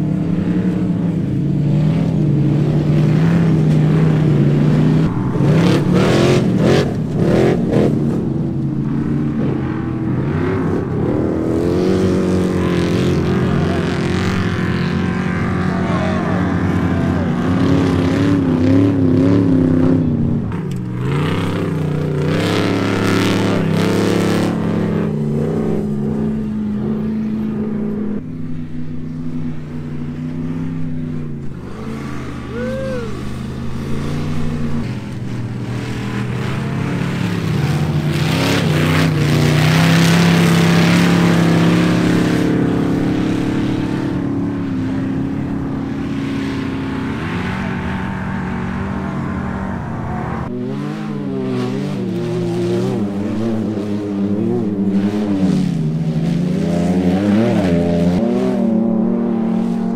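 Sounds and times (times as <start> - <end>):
vehicle engines revving: 0.0 - 59.9.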